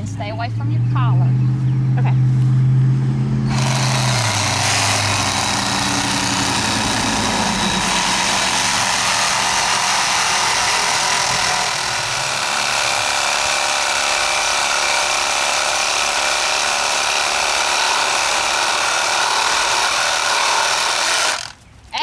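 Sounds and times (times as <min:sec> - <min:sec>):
reciprocating saw cutting branch: 0:03.5 - 0:21.6.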